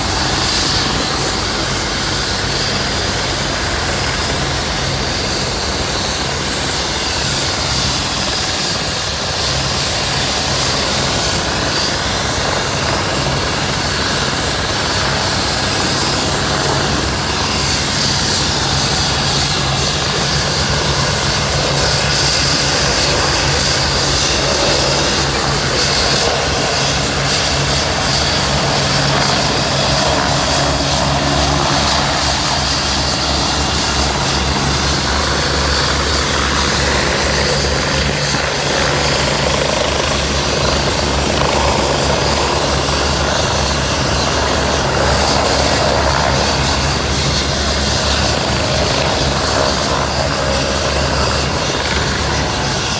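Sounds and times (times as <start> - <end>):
helicopter rotor beat: 0.0 - 52.9
helicopter turbine whine: 0.0 - 52.9.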